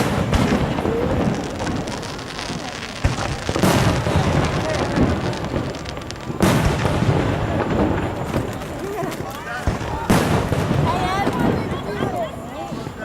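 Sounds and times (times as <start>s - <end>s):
firework shells booming: 0.0s - 13.0s
fireworks crackling: 0.0s - 13.0s.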